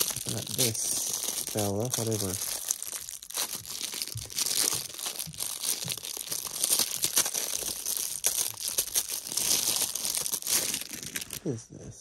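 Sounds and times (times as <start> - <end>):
plastic wrapping crinkling and tearing: 0.0 - 11.6.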